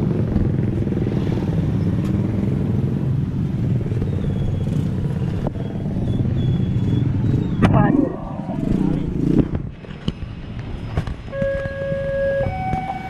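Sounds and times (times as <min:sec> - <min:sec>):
motorcycle engines droning: 0:00.0 - 0:13.0
traffic noise: 0:00.0 - 0:13.0.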